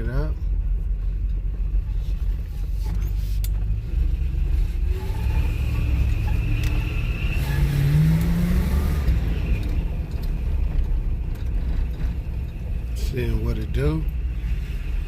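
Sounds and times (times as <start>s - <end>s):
car engine accelerating: 1.2s - 15.0s.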